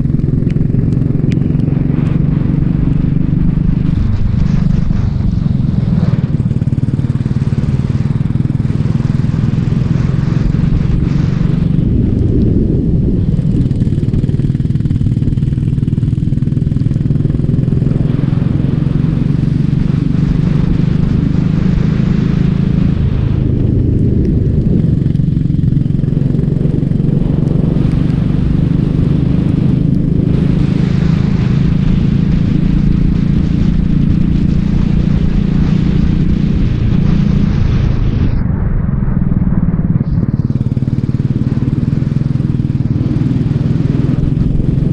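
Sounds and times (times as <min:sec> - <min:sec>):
racing kart engine: 0:00.0 - 0:38.4, 0:39.2 - 0:44.9.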